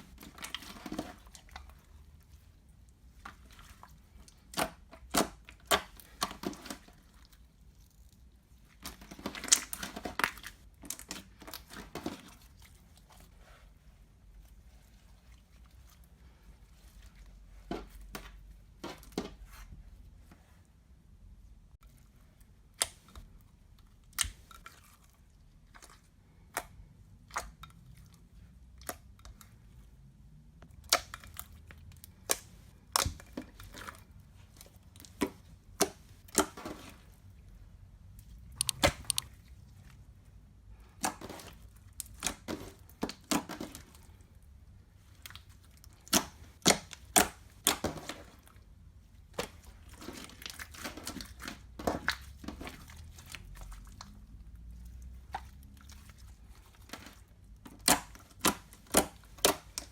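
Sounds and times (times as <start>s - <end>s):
slime squishing with pops: 0.0s - 13.9s, 21.8s - 29.7s, 30.6s - 59.9s.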